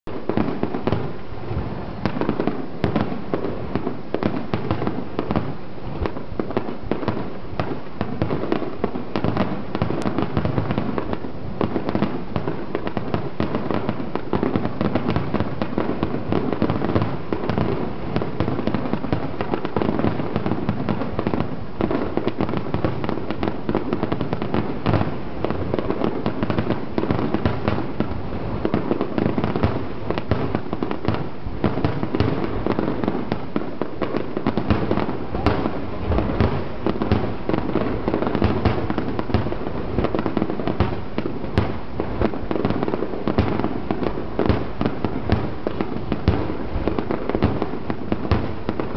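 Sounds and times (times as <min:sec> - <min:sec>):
firework shells booming and crackling: 0:00.1 - 0:48.9.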